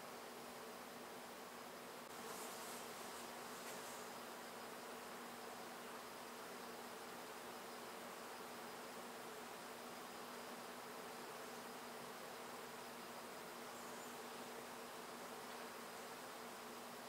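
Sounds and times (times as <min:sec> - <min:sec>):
faint buzzing hum: 0:00.0 - 0:17.0
low hiss: 0:00.0 - 0:17.0.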